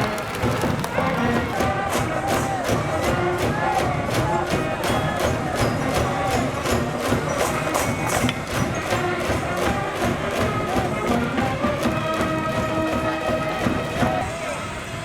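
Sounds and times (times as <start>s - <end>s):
steady drumbeat: 0.0s - 14.4s
brass band playing: 0.0s - 14.9s.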